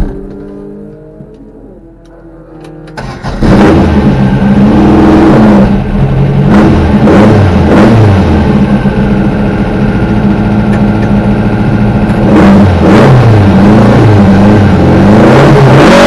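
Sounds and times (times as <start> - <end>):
race engine revving: 0.0 - 10.3, 11.5 - 16.0
low engine rumble: 0.0 - 13.4.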